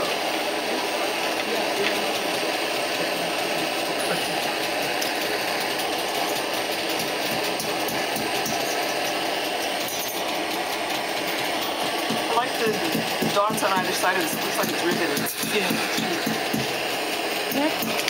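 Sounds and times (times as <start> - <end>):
gas torch hissing: 0.0 - 18.0.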